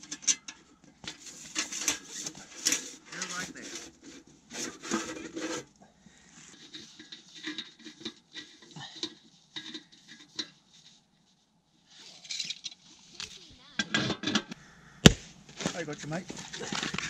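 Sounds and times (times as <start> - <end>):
metal rubbing and scraping: 0.0 - 11.1, 11.9 - 17.0.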